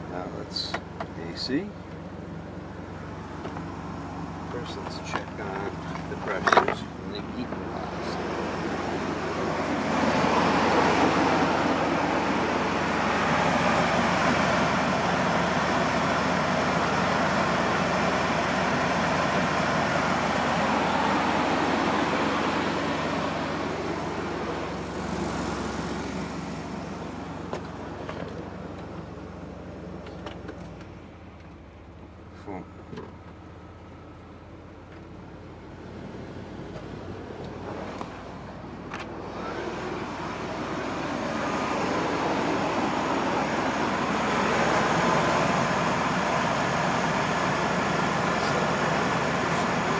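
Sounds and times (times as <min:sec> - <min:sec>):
van engine idling: 0:00.0 - 0:49.9.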